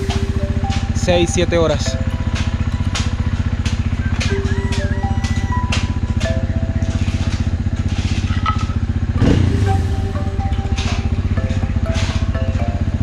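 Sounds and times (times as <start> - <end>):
background music with beat: 0.0 - 13.0
motorcycle engine running: 0.0 - 13.0.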